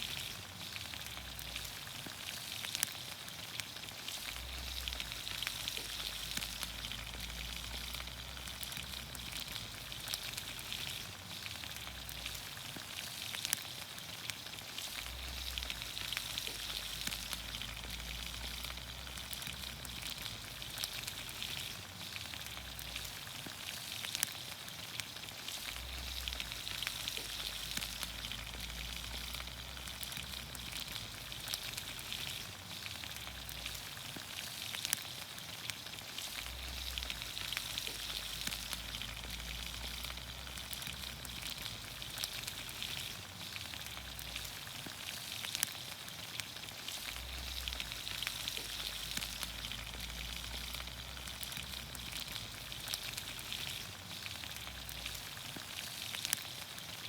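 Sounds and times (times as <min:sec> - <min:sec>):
pops and crackles: 0:00.0 - 0:57.0
vegetables sizzling in oil: 0:00.0 - 0:57.0.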